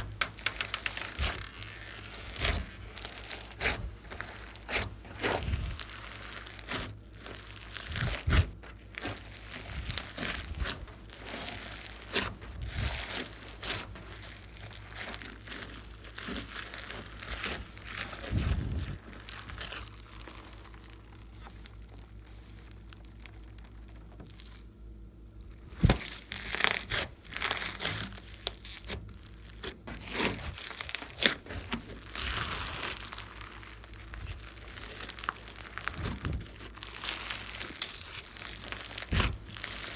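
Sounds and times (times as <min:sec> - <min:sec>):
slime squished by hand crackling: 0:00.0 - 0:39.9.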